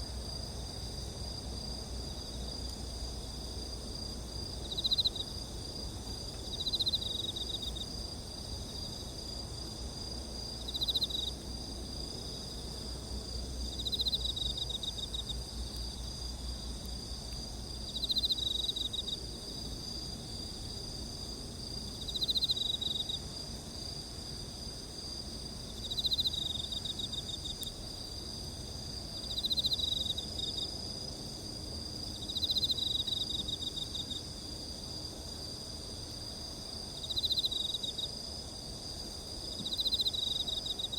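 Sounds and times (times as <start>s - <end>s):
crickets trilling: 0.0s - 40.9s
insect pulsed chirp: 0.0s - 40.9s.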